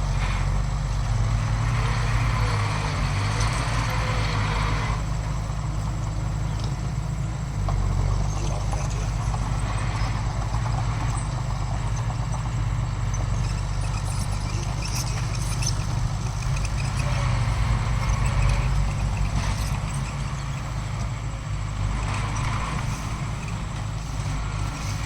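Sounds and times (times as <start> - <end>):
diesel machinery engine running: 0.0 - 25.0.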